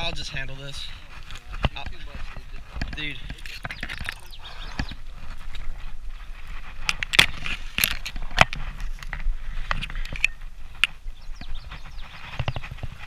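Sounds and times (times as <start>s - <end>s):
reeds rustling against microphone: 0.0s - 13.0s.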